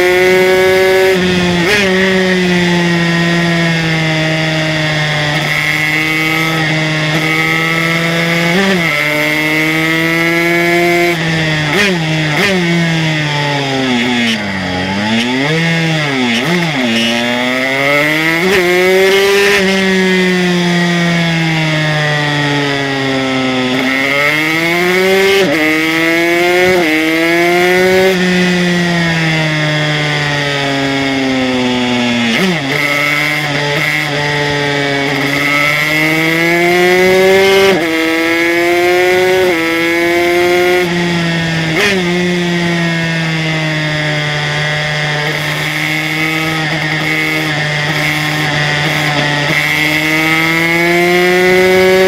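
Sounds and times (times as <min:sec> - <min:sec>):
two-stroke engine revving: 0:00.0 - 0:52.0.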